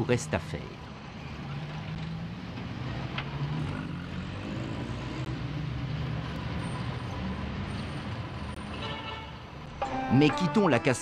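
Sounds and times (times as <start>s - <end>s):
bus engine humming: 0.0s - 11.0s
street traffic: 0.0s - 11.0s.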